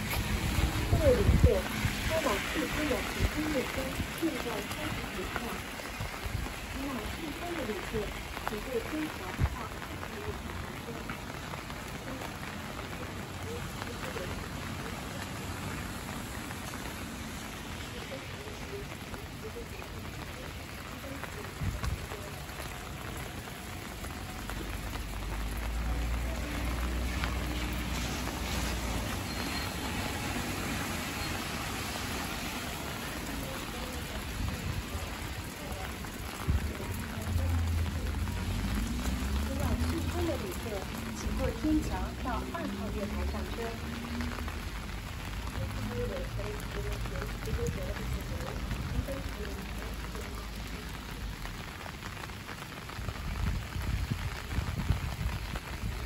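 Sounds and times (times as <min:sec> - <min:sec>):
rain pattering on pavement: 0:00.0 - 0:56.0.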